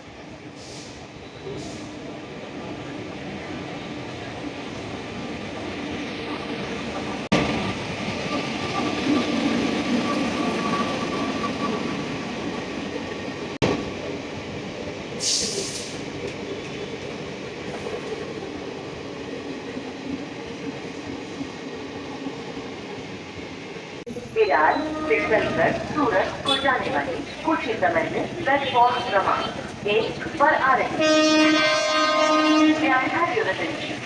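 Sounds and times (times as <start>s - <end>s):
train wheels rumbling on rails: 0.3s - 34.0s.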